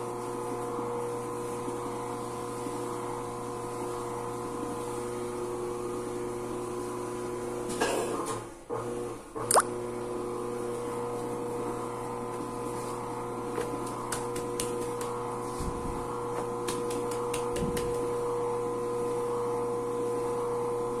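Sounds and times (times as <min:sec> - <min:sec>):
dough sheeter motor humming: 0:00.0 - 0:07.7, 0:09.9 - 0:21.0.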